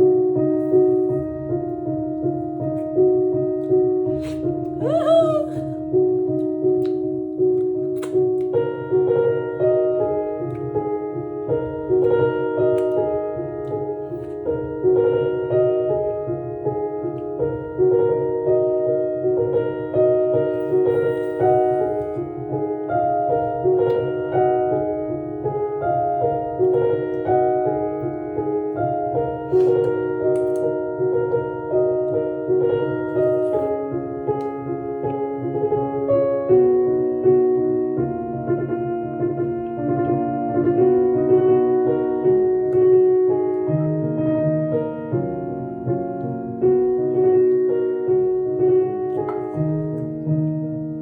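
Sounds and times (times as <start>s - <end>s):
gentle piano music: 0.0s - 51.0s.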